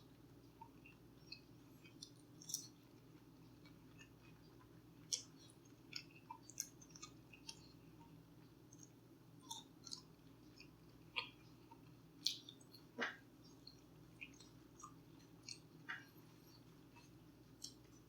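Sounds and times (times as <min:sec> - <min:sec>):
low room hum: 0:00.0 - 0:18.0
person chewing: 0:00.5 - 0:18.0.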